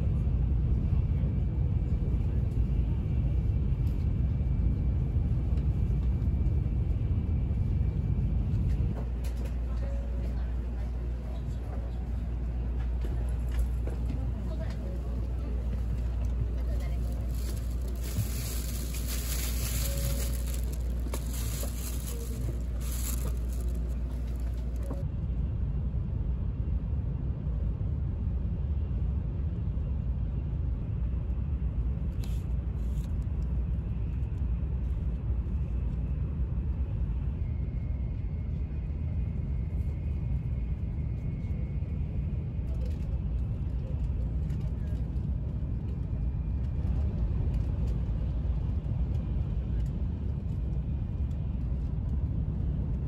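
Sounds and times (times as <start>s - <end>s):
train cabin low rumble: 0.0s - 53.0s.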